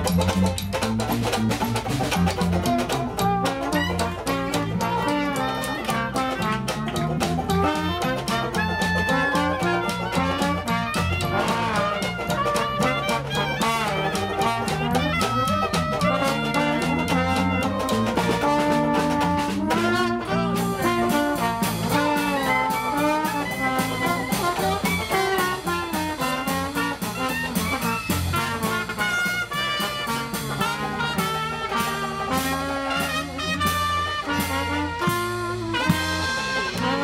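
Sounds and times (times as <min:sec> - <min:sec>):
clarinet: 0:00.0 - 0:37.0
strummed banjo: 0:00.0 - 0:37.0
strummed guitar: 0:00.0 - 0:37.0
trumpet: 0:00.0 - 0:37.0.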